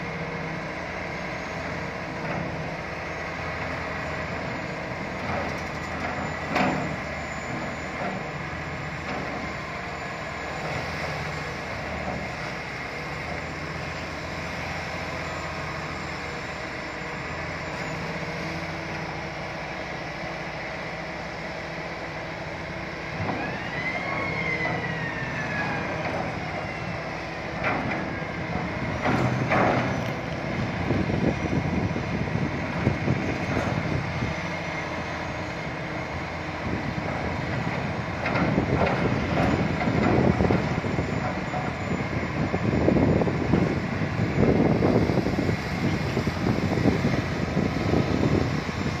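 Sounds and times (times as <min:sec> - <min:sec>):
excavator running: 0:00.0 - 0:49.0
hydraulic whine: 0:00.0 - 0:49.0.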